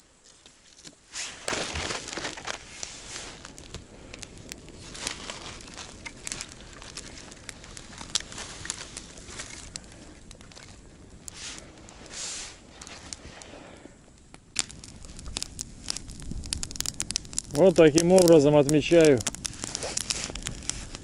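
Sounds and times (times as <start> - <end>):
campfire crackling and popping: 0.2 - 21.0.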